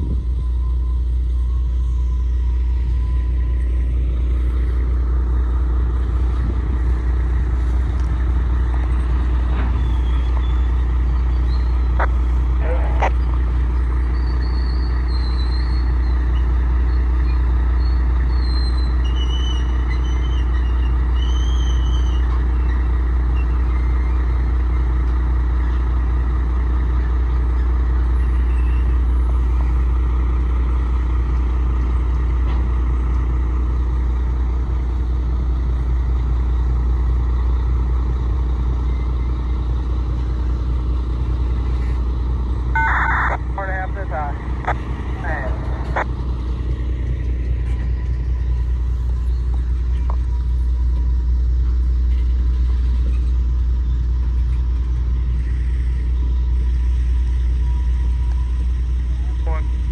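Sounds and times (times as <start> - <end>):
locomotive low rumble: 0.0 - 59.9.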